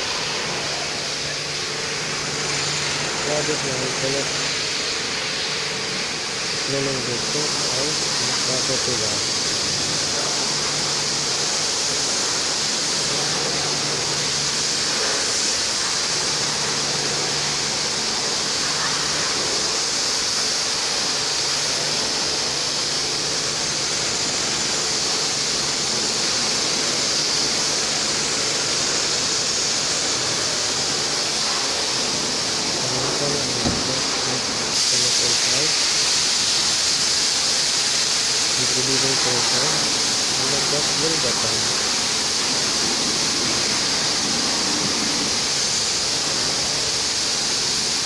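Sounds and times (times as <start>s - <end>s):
pressure washer spraying: 0.0s - 48.0s.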